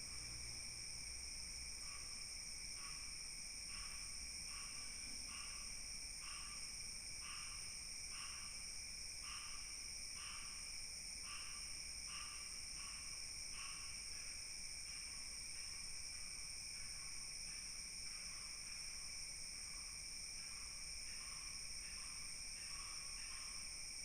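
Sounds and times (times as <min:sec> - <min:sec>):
night insects chorus: 0:00.0 - 0:24.0.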